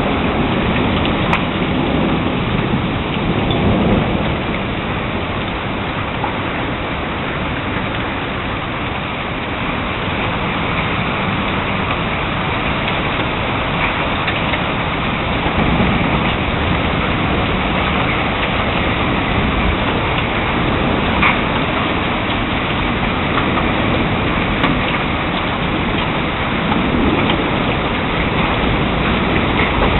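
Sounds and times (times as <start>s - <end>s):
heavy rain pouring: 0.0s - 29.9s
low thunder rumble: 0.0s - 29.9s.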